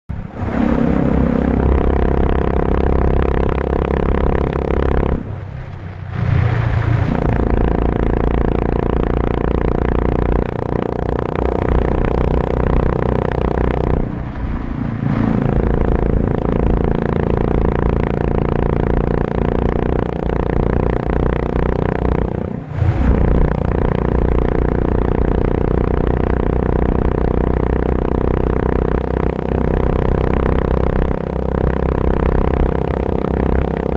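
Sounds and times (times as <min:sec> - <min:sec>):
loud motorcycle engine: 0:00.1 - 0:33.9.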